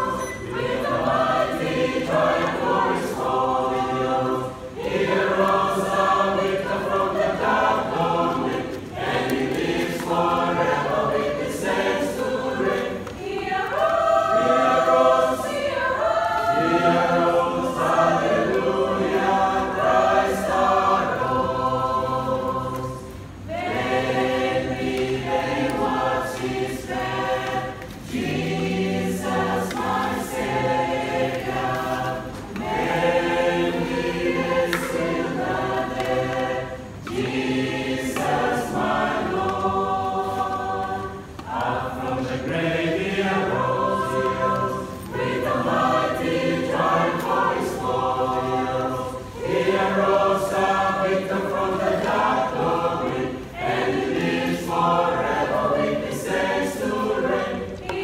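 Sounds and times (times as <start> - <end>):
mixed choir singing a hymn: 0.0 - 58.0.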